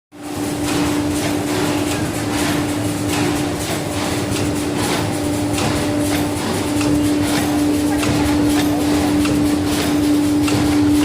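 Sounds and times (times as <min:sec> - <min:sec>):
machine parts clacking: 0:00.2 - 0:11.0
packing machine humming: 0:00.2 - 0:11.0.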